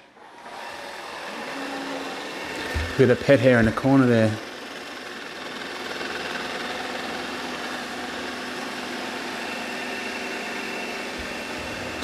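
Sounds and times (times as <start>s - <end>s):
robot vacuum running: 0.2s - 12.0s.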